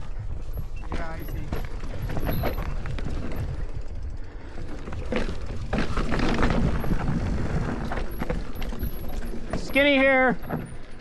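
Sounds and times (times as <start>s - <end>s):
wind buffeting microphone: 0.0s - 9.6s
bike rattles and knocks: 0.0s - 11.0s.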